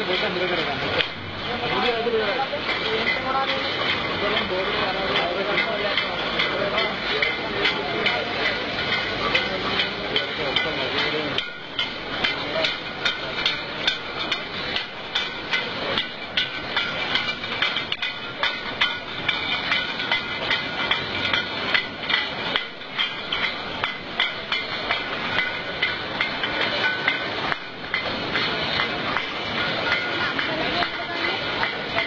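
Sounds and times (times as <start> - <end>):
glass bottles clinking: 0.0 - 32.0
line machinery noise: 0.0 - 32.0.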